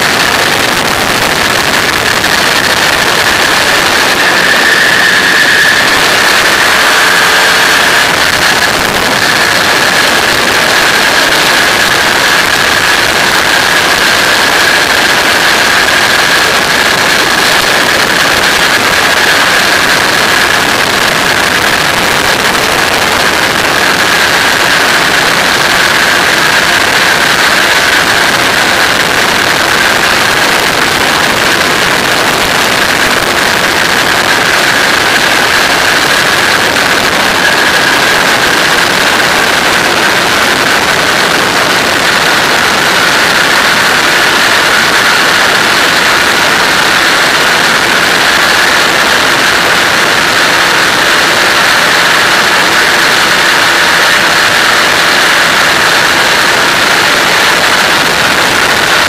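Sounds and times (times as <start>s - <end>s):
engine and propeller high drone: 0.0s - 59.0s
rush of airflow: 0.0s - 59.0s.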